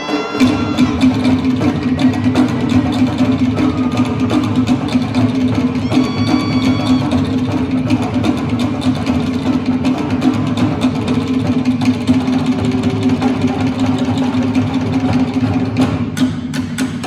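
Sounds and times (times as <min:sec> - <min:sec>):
wooden slit drums struck rapidly: 0:00.0 - 0:17.0.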